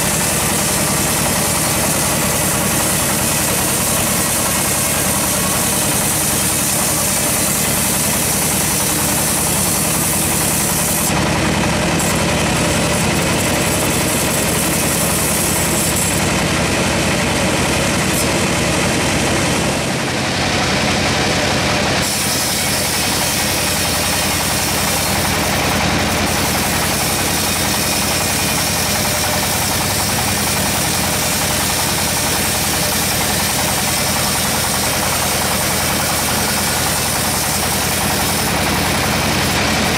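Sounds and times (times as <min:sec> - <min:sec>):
bandsaw cutting log: 0:00.0 - 0:39.9.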